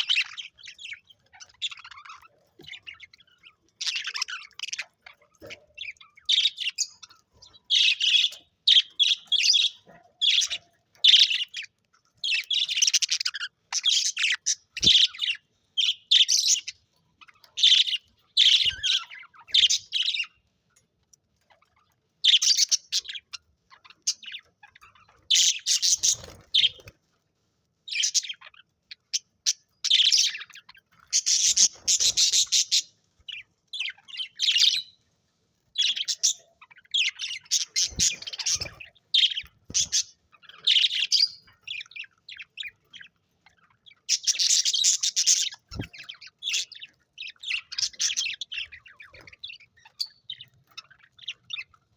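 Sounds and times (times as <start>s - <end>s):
budgies chirping and chattering: 0.0s - 51.9s.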